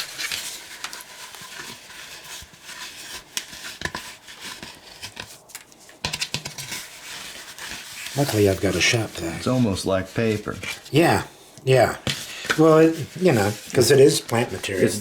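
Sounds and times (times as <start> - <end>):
scraping seeds from dried gourd: 0.0 - 15.0
scratchy rustling with clicks: 0.0 - 15.0.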